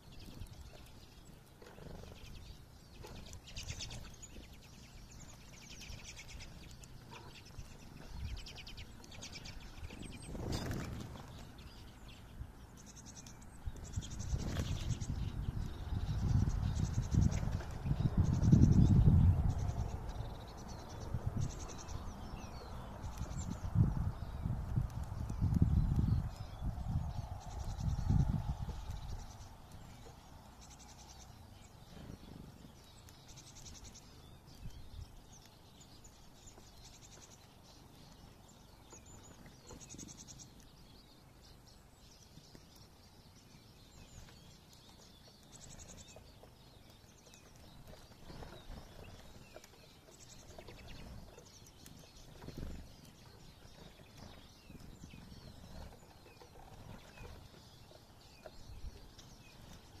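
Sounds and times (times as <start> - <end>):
songbirds twittering: 0.0 - 60.0.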